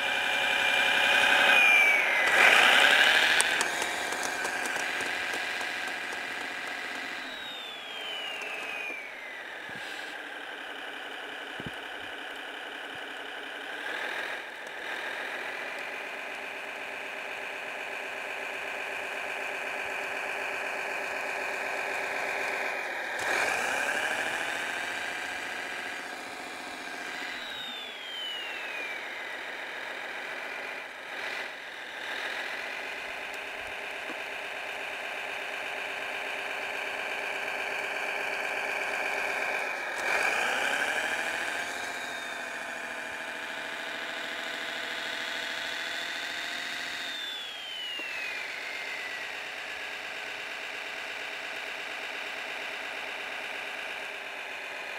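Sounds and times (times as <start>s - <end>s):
simulated engine through small speaker: 0.0s - 54.9s.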